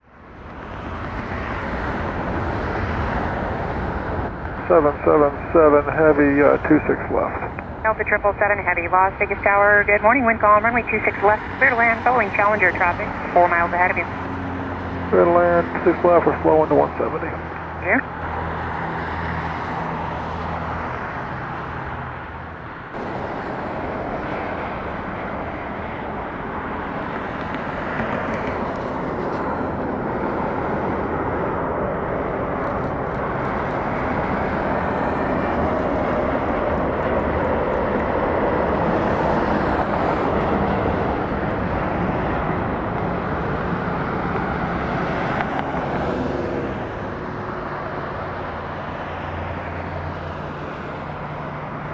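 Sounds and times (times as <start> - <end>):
jet engine rush: 0.0 - 51.9.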